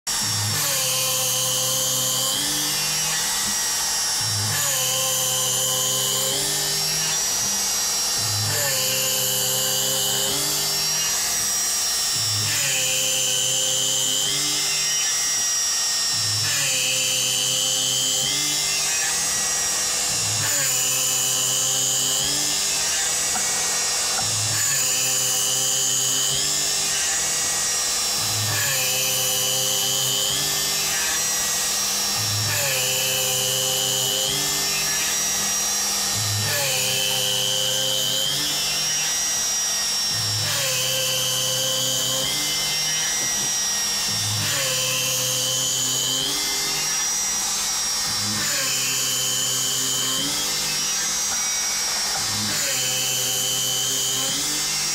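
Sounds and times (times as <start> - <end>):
cnc spindle whining: 0.1 - 54.9.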